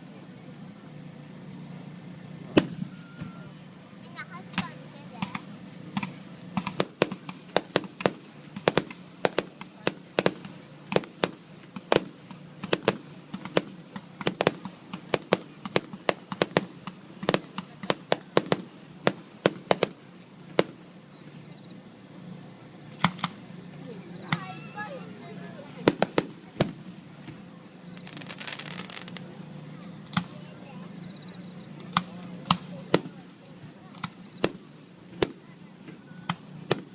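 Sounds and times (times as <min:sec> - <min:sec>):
fireworks bursting with sharp bangs: 0:02.5 - 0:21.4, 0:22.9 - 0:23.4, 0:24.2 - 0:30.7, 0:31.3 - 0:36.9.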